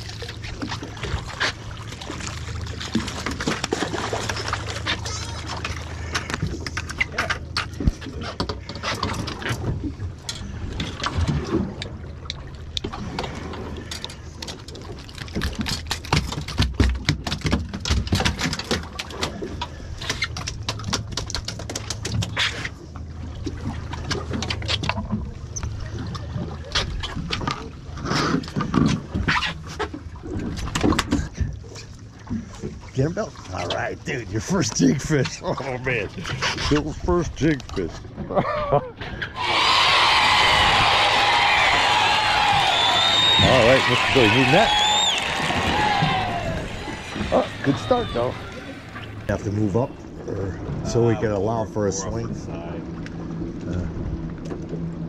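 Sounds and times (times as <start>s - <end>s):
water splashing: 0.0s - 38.3s, 39.1s - 55.0s
knocks and clatter on boat: 0.0s - 39.4s, 40.0s - 55.0s.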